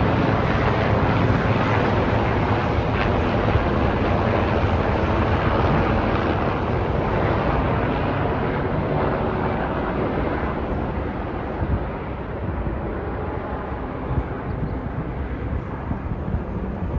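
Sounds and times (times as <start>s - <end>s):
helicopter rotors and engines: 0.0s - 16.9s
wind on microphone: 0.0s - 16.9s.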